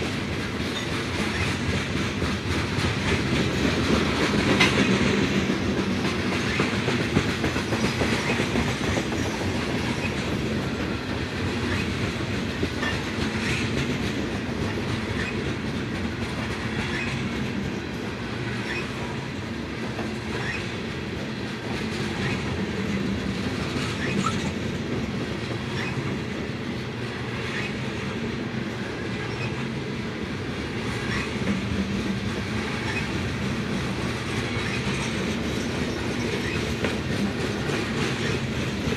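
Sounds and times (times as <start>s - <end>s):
train wheels rumbling on rail: 0.0s - 38.9s
wheels clacking over rail joints: 0.0s - 38.9s.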